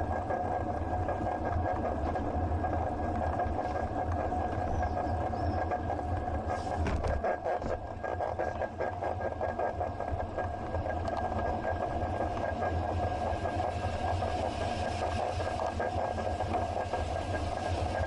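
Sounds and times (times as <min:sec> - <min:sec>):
bicycle tyre rumble on road: 0:00.0 - 0:18.0
thin constant hum: 0:00.0 - 0:18.0.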